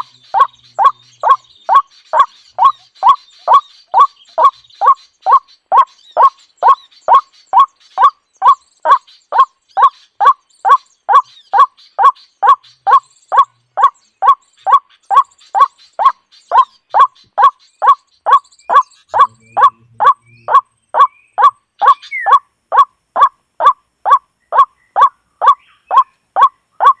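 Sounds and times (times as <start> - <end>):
bird's short repeated call: 0.0 - 27.0
high bird chirps: 0.0 - 27.0.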